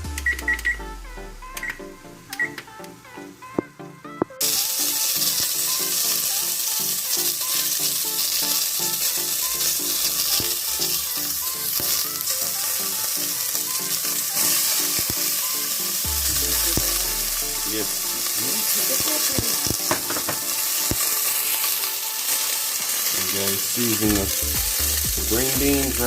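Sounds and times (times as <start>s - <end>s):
food sizzling in a frying pan: 4.4s - 26.0s.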